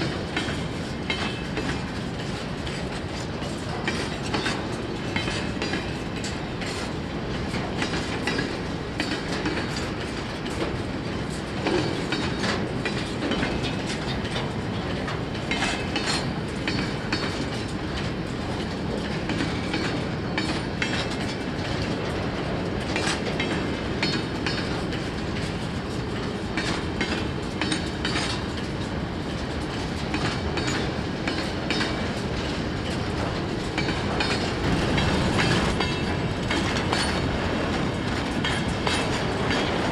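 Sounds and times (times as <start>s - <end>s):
freight train rumbling past: 0.0s - 39.9s
train wheels clicking over rail joints: 0.0s - 39.9s.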